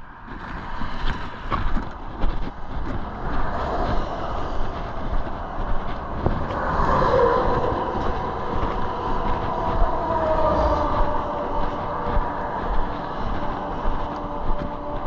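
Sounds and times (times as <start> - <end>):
vehicle passing with whine: 2.9 - 15.0.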